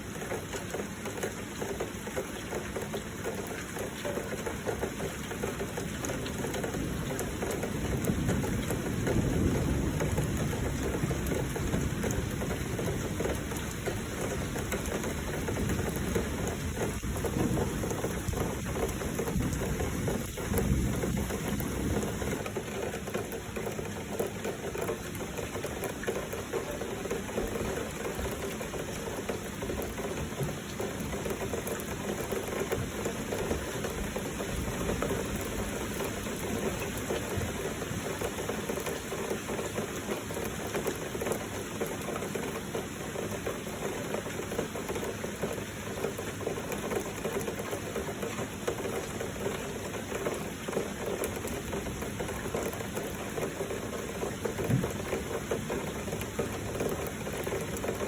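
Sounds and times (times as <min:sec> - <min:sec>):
flowing water: 0:00.0 - 0:58.0
heavy rain: 0:00.0 - 0:58.0.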